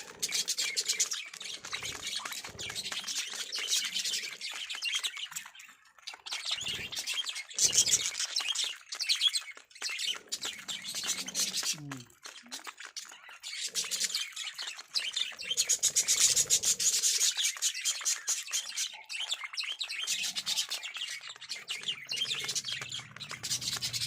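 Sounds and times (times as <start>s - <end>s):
budgerigars chattering: 0.0s - 24.0s.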